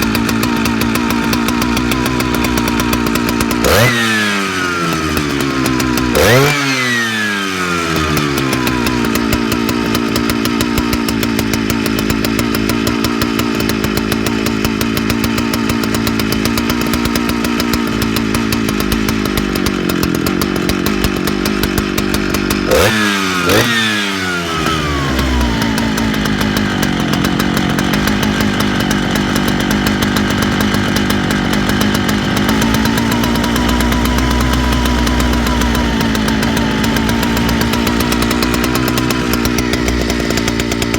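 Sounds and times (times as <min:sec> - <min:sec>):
chainsaw idling: 0:00.0 - 0:40.9
chainsaw throttle blips: 0:00.0 - 0:40.9.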